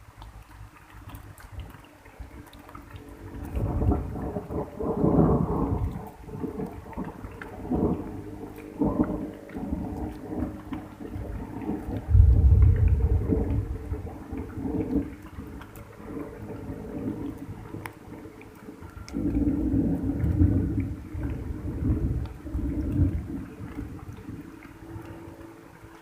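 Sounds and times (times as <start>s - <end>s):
light drizzle: 0.0s - 26.0s
thunder rumbling: 3.2s - 25.5s.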